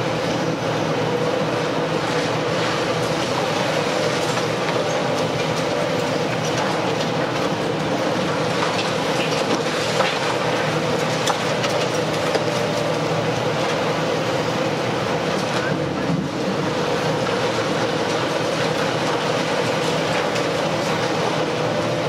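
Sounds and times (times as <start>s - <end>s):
excavator humming: 0.0s - 22.0s.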